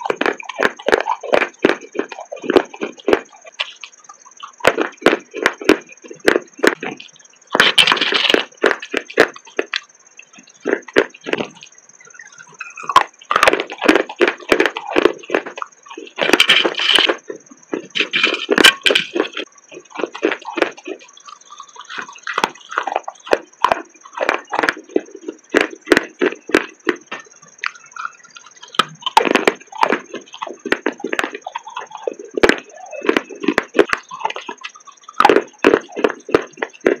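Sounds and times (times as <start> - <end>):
clay being bitten and chewed: 0.0 - 11.7, 12.4 - 37.0.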